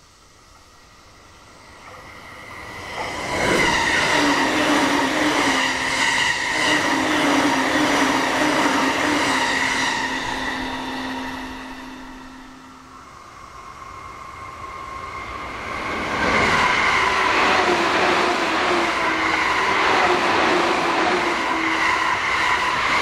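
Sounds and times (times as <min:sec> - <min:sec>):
electric train passing: 0:00.0 - 0:23.0.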